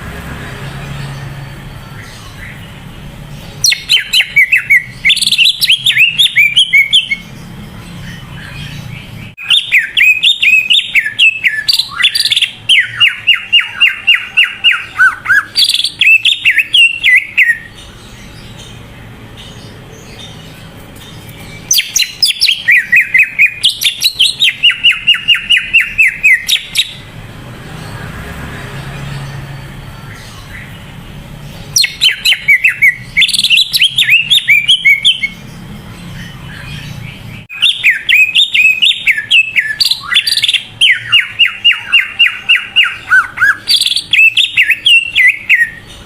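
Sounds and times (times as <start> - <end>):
bird singing: 0.0 - 46.0.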